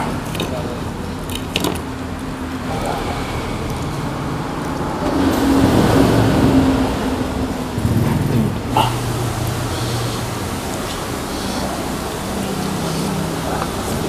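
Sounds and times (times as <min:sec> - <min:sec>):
rumble of passing vehicles: 0:00.0 - 0:14.0
vehicle engine passing: 0:00.0 - 0:14.0.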